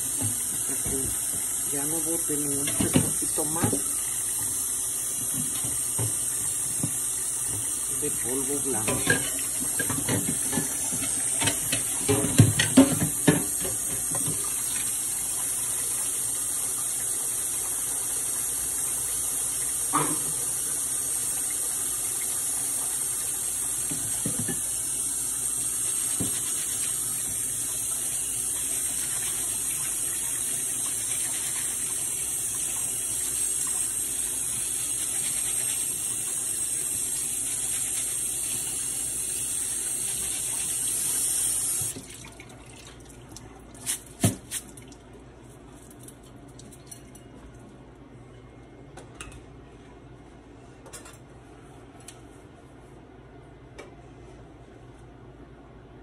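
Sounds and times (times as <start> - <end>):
tap water running into sink: 0.0 - 45.0.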